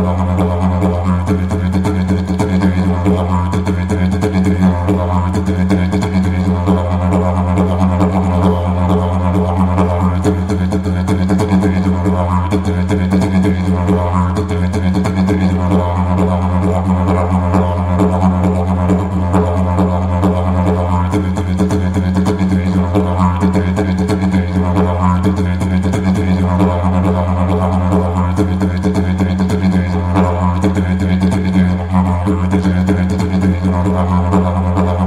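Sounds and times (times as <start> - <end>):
didgeridoo drone: 0.0 - 35.0.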